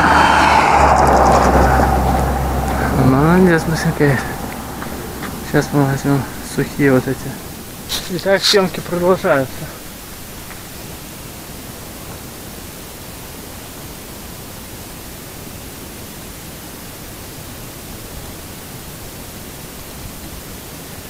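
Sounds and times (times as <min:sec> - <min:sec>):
steady hiss: 0:01.3 - 0:21.0.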